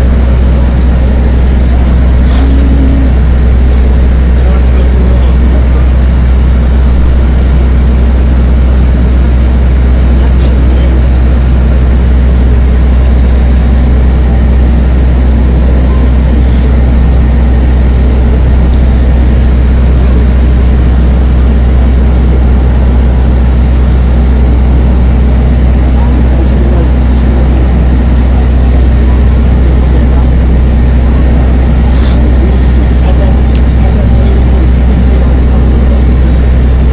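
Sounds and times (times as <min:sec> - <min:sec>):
bus engine and road rumble: 0:00.0 - 0:36.9.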